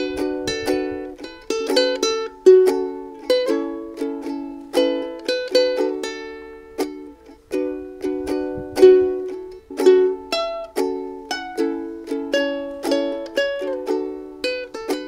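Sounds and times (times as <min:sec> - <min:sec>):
ukulele fingerpicked: 0:00.0 - 0:15.0.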